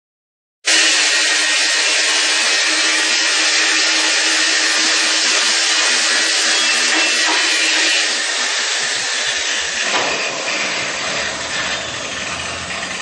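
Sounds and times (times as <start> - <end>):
angle grinder grinding metal: 0.7 - 13.0.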